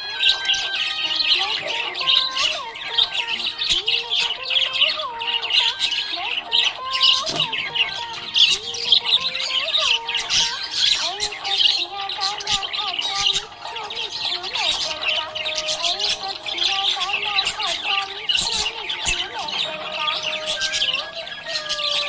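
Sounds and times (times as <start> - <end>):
budgerigars chirping and squawking: 0.0 - 22.0.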